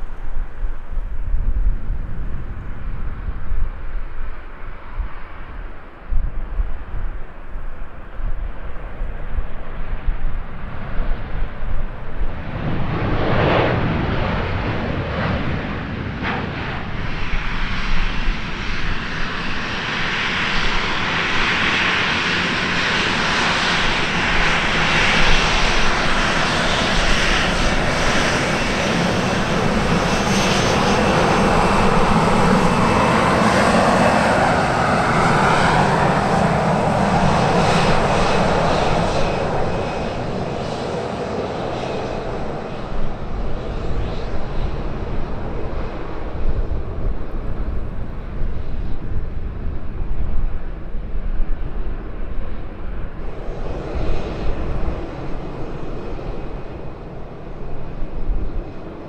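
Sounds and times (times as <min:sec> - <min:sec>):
airliner engines roaring: 0:00.0 - 0:59.0.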